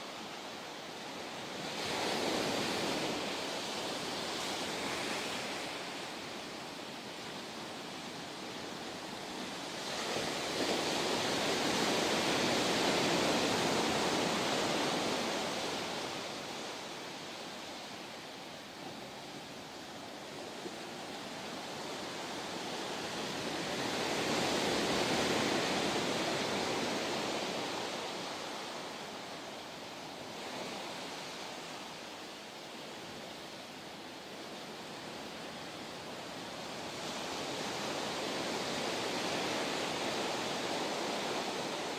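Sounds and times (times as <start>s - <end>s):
ocean surf washing ashore: 0.0s - 41.9s.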